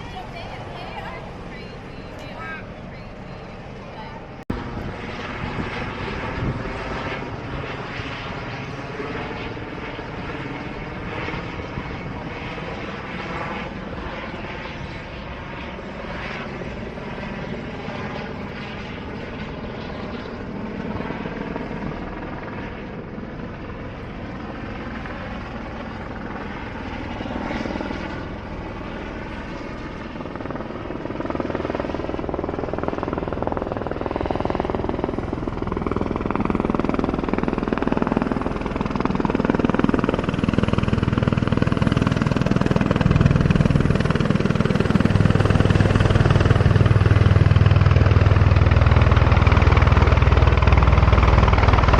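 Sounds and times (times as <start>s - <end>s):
helicopter rotor and turbine: 0.0s - 51.9s.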